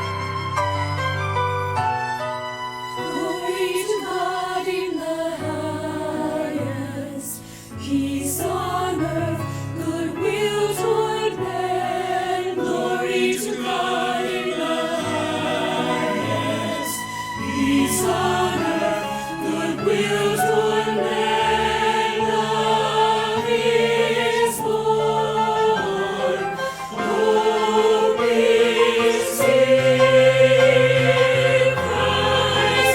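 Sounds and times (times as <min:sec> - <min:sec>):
choir singing a hymn: 0:00.0 - 0:00.5, 0:03.0 - 0:32.9
instrumental accompaniment: 0:00.0 - 0:04.9, 0:10.3 - 0:32.9.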